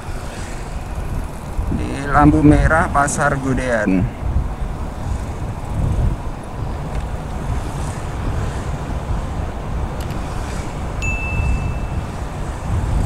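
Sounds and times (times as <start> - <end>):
motorcycle engine and road rumble: 0.0 - 13.0
wind buffeting microphone: 0.0 - 13.0.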